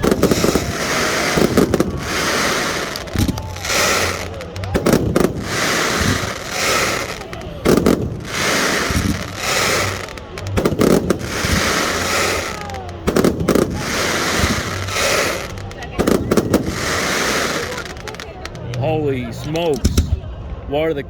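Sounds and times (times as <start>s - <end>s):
fireworks crackling: 0.0s - 20.4s
fireworks whistle: 0.0s - 20.4s
fireworks loud bangs: 0.0s - 20.6s.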